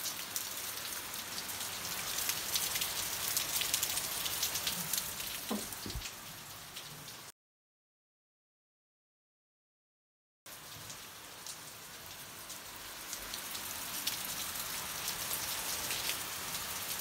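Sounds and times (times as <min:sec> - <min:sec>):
rain on paving and foliage: 0:00.0 - 0:07.3, 0:10.5 - 0:17.0.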